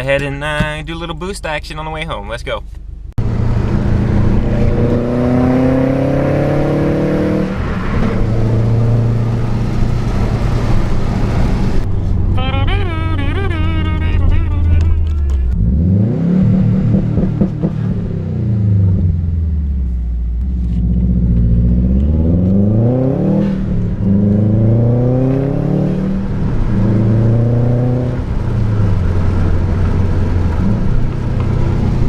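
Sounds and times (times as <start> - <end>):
car engine revving: 3.2 - 32.0.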